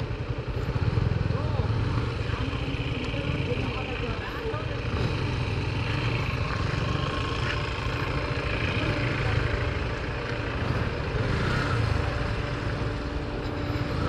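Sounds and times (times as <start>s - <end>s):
motorcycle engine low rumble: 0.0s - 14.0s.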